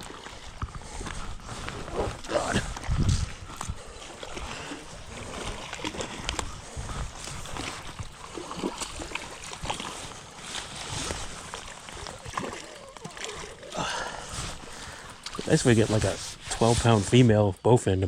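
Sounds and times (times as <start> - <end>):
water lapping at shoreline: 0.0 - 17.4.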